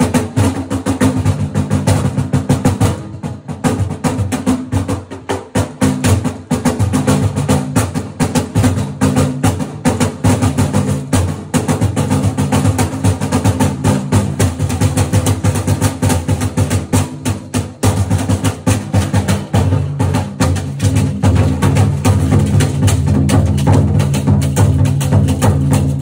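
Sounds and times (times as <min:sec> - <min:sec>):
barrel drum beaten with sticks: 0:00.0 - 0:26.0.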